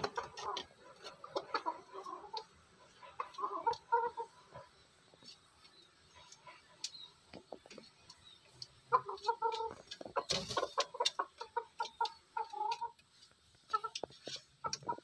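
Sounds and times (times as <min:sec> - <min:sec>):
chicken clucking: 0:00.0 - 0:15.0.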